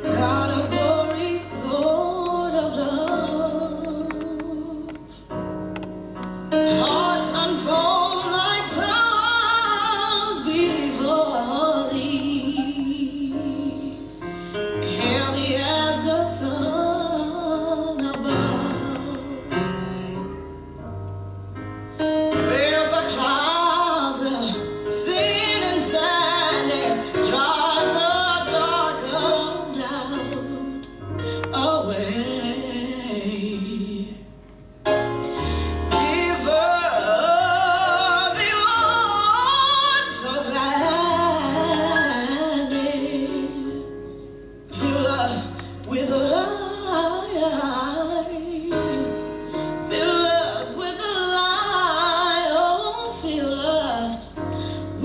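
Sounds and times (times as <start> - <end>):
woman singing with vibrato: 0.0 - 5.3, 6.7 - 14.2, 14.8 - 19.7, 22.4 - 34.3, 35.9 - 49.3, 49.9 - 55.0.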